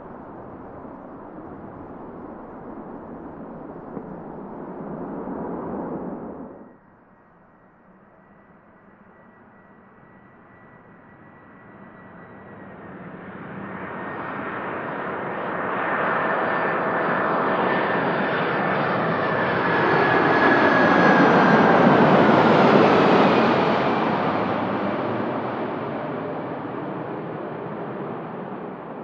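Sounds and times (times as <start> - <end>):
jet airliner passing: 0.0 - 6.7, 10.2 - 29.0.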